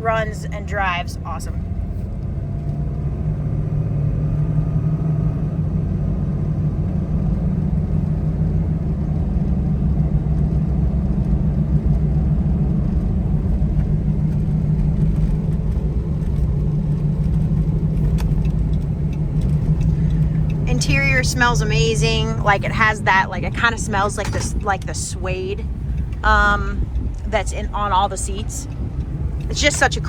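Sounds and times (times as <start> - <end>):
diesel truck engine drone: 0.0 - 30.0
road noise: 0.0 - 30.0.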